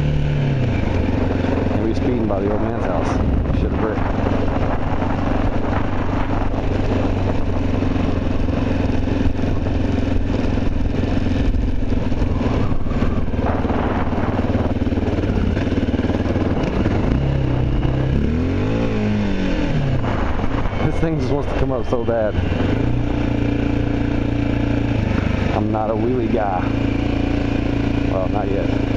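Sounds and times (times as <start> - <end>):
wind noise on microphone: 0.0 - 25.6
motorcycle engine running: 0.0 - 28.9.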